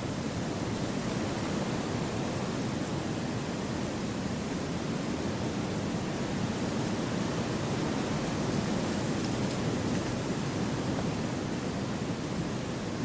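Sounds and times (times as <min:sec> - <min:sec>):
wind through forest trees: 0:00.0 - 0:13.0.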